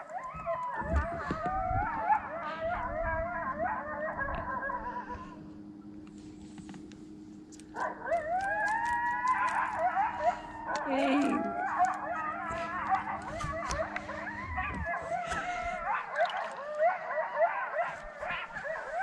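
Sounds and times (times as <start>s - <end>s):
coyotes howling and yipping: 0.0s - 6.0s, 7.5s - 19.0s.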